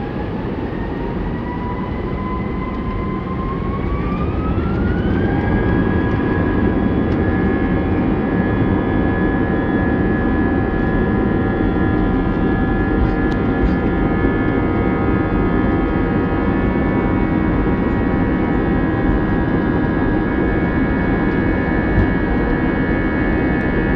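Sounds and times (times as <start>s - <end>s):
jet engines rumbling and whining: 0.0s - 23.9s.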